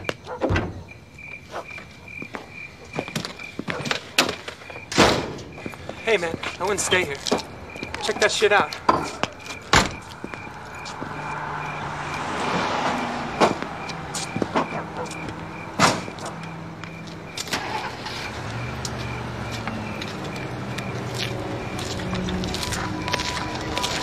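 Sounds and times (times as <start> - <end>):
motor vehicle noise: 0.0 - 24.0.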